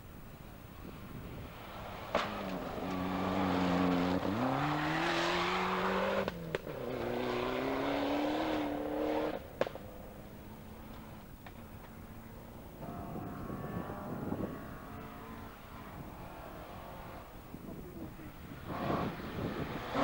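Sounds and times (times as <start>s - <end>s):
rally car engines revving: 0.8s - 20.0s.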